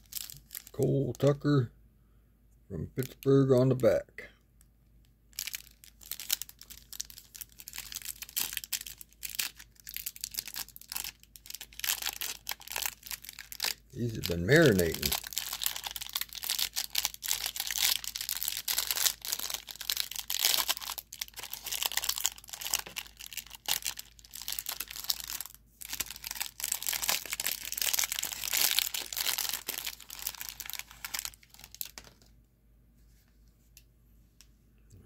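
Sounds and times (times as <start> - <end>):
plastic wrapper crinkling and tearing: 0.0 - 1.3, 5.3 - 32.3.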